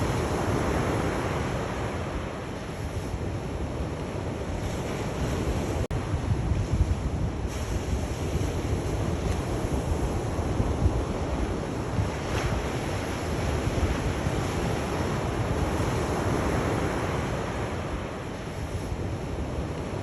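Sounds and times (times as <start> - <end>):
sea waves washing onto shore: 0.0 - 20.0
wind noise on microphone: 0.0 - 20.0.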